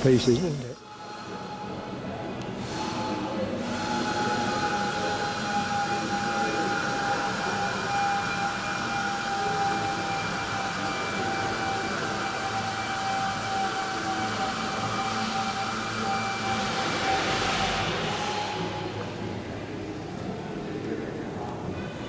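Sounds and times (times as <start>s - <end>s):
mechanical whine: 0.0s - 22.0s.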